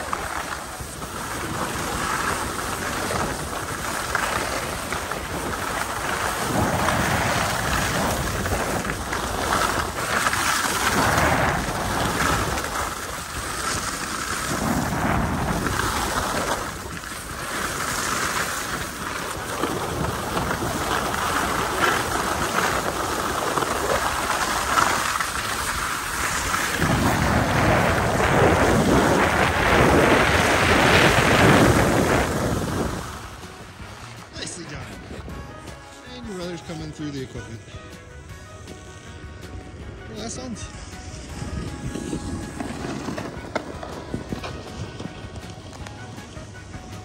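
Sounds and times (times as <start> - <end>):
skis scraping on packed snow: 0.0 - 47.0
wind rushing over microphone: 0.0 - 47.0.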